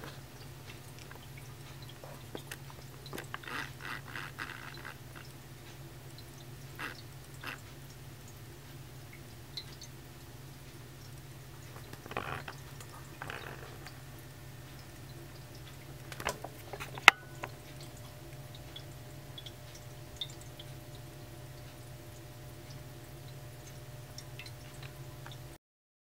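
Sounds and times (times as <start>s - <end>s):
water trickling and dripping: 0.0s - 25.6s.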